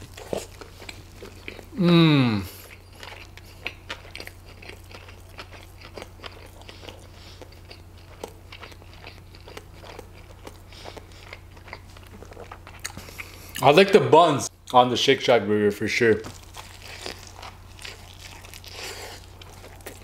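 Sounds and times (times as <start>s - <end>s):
close chewing with mouth clicks: 0.0s - 1.8s, 2.4s - 13.6s, 16.3s - 20.0s
low electrical hum: 0.0s - 20.0s.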